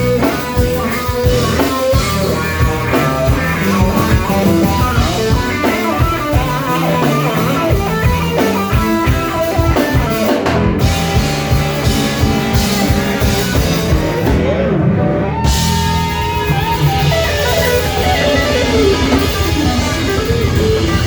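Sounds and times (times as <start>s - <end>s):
drum kit steady beat: 0.0s - 14.6s, 15.5s - 21.0s
bass guitar: 0.0s - 21.0s
electric guitar: 0.0s - 21.0s.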